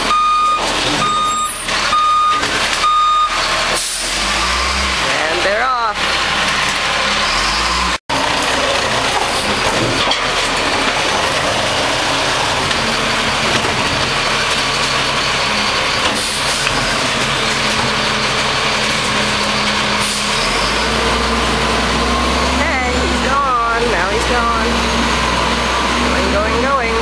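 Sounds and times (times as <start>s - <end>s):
garbage truck engine running: 0.0s - 27.0s.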